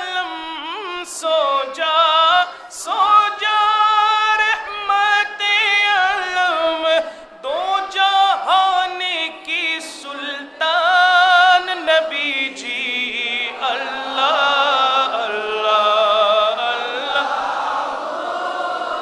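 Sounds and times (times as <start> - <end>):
man chanting: 0.0 - 17.3.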